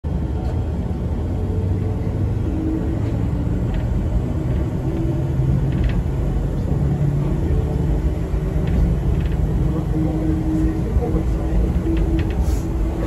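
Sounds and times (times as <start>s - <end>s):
train wheels and motors rumbling: 0.1s - 13.0s.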